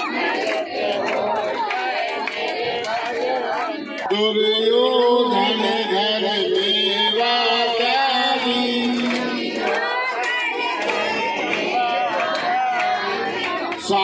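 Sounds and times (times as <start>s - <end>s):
voices singing a devotional chant: 0.0s - 14.0s.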